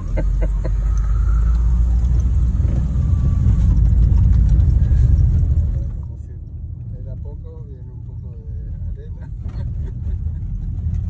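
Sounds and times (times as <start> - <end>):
car driving on dirt road: 0.0 - 11.0.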